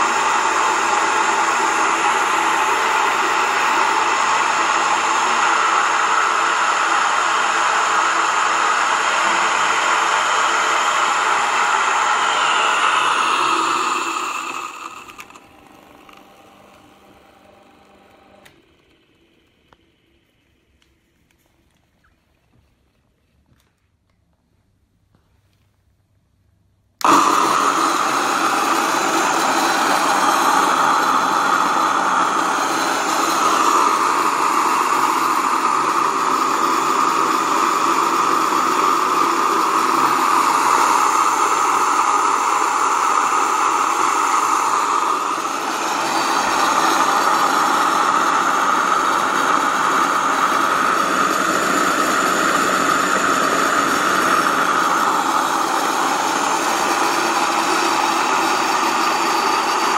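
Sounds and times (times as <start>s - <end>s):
electric grain mill grinding: 0.0s - 20.6s, 27.0s - 59.9s.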